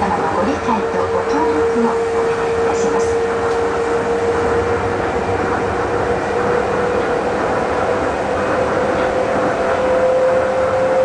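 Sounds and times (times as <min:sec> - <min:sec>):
moving vehicle running noise: 0:00.0 - 0:11.0.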